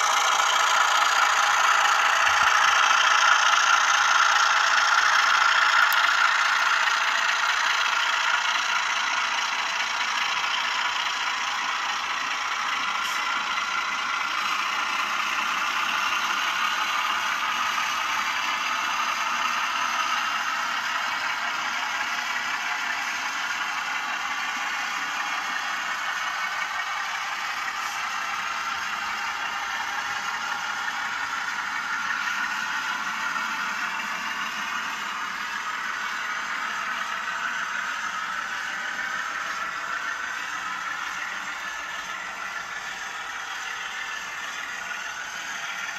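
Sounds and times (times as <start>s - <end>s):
diesel engine sound through small speaker: 0.0s - 45.9s
model train whirring on track: 0.0s - 45.9s.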